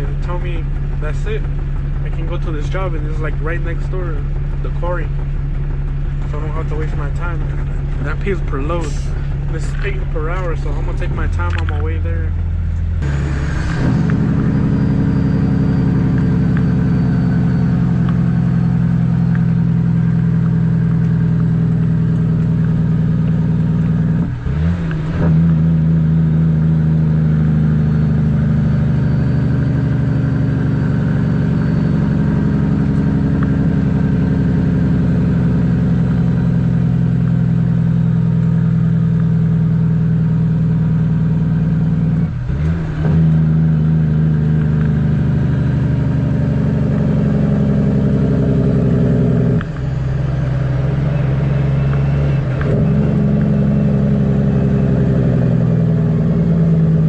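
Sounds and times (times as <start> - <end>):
diesel truck engine pulling: 0.0 - 57.0.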